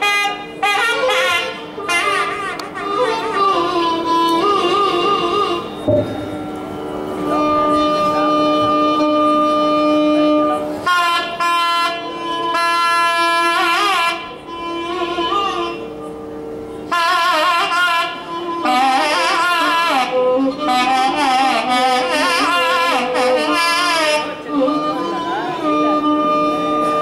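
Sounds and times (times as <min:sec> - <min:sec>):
double reed wind instrument melody: 0:00.0 - 0:27.0
violin accompaniment: 0:00.0 - 0:27.0.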